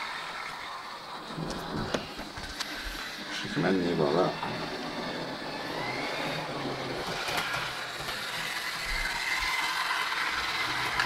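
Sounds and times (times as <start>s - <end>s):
model train motor whine: 0.0s - 11.0s.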